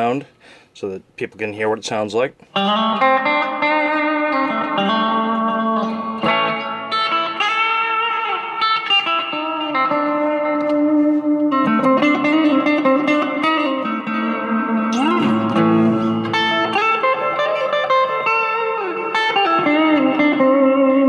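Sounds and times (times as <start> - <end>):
electric guitar blues licks: 2.4 - 21.0.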